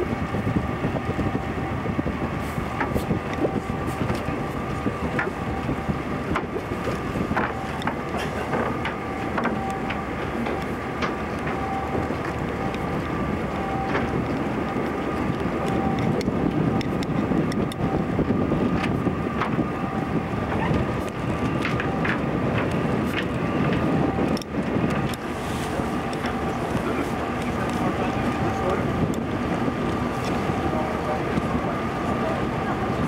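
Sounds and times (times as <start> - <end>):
ship engine: 0.0 - 33.0
water and ice along hull: 0.0 - 33.0
wind on microphone: 0.0 - 33.0.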